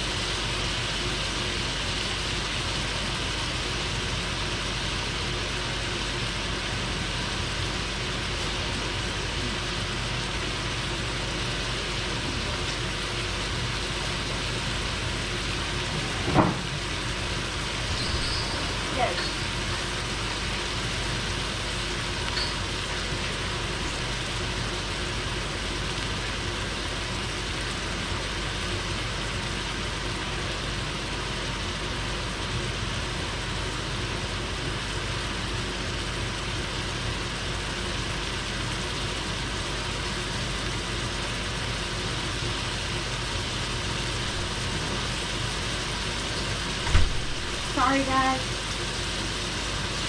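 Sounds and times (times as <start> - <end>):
range hood fan whooshing: 0.0 - 50.0
vegetables bubbling in a skillet: 0.0 - 50.0.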